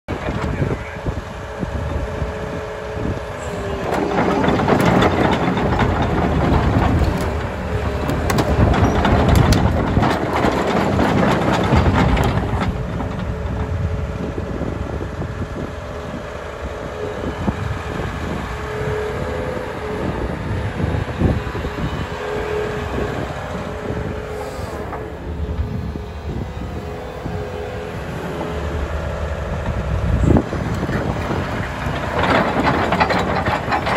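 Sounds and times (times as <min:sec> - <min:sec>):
excavator diesel engine rumbling: 0:00.1 - 0:33.9.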